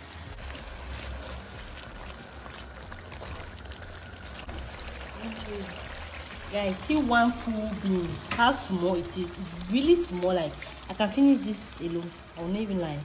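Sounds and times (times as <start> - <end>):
stew boiling and bubbling: 0.0 - 13.0.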